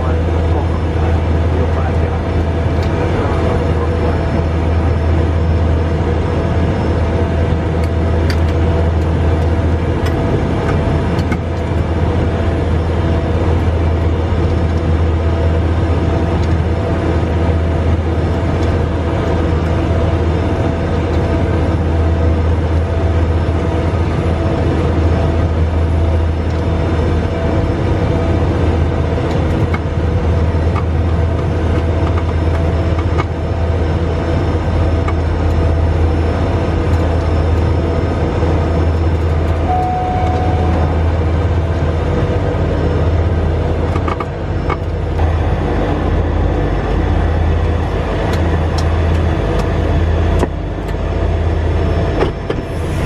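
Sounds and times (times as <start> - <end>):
turboprop engine drone: 0.0 - 53.0.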